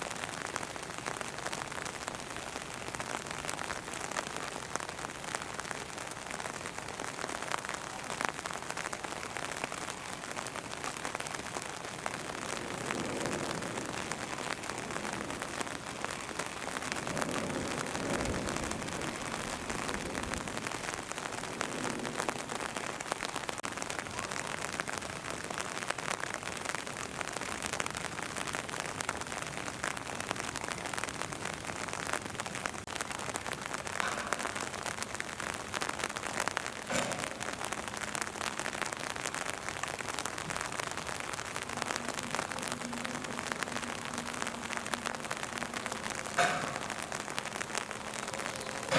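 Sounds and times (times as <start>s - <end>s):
raindrops ticking close by: 0.0s - 48.9s
steady rain falling: 0.0s - 48.9s.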